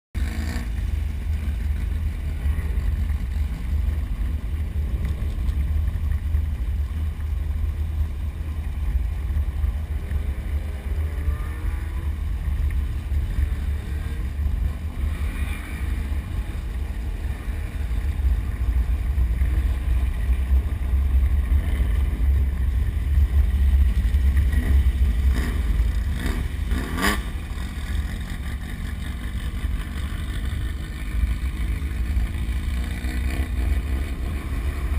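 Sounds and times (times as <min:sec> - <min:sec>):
low rumble of vehicle engine: 0:00.2 - 0:34.9.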